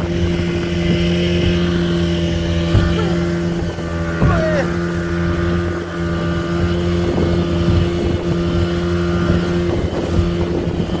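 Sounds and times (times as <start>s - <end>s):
speedboat engine droning: 0.0s - 11.0s
water rushing past hull: 0.0s - 11.0s.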